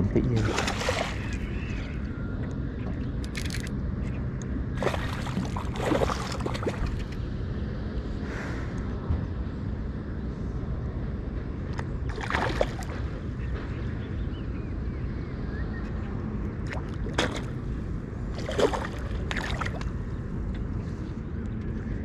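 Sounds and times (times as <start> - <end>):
boat low rumble: 0.0 - 22.0.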